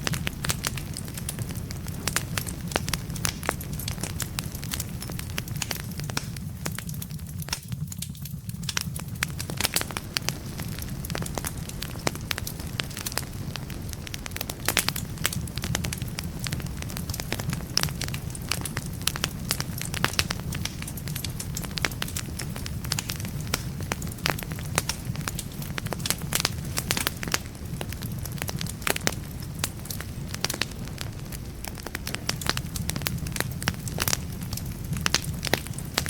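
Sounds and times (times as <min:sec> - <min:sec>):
burning logs crackling and popping: 0:00.0 - 0:36.0
low rumble of flames: 0:00.0 - 0:36.0.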